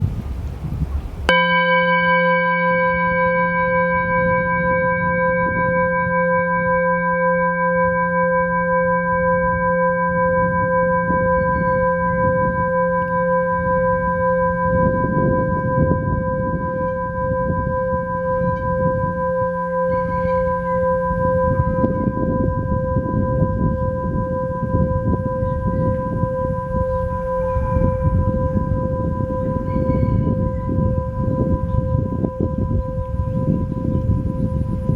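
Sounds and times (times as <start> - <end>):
singing bowl ringing: 1.3 - 34.9.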